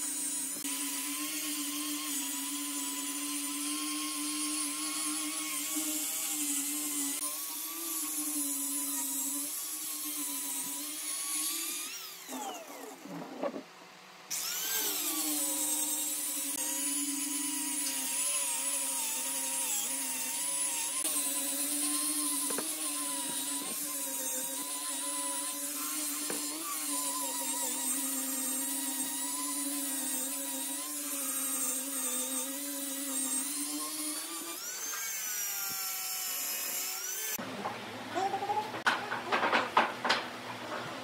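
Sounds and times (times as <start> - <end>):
angle grinder sanding wood: 0.0 - 13.7, 14.3 - 37.4.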